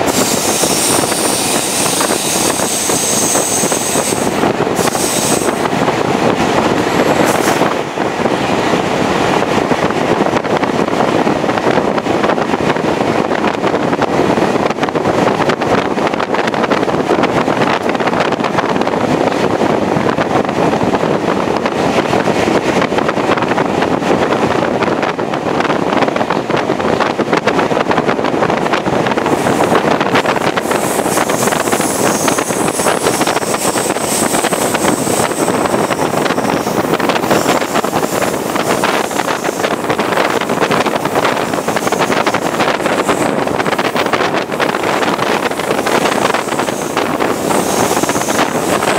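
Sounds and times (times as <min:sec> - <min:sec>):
train running noise: 0:00.0 - 0:48.9
wind rushing over microphone: 0:00.0 - 0:48.9.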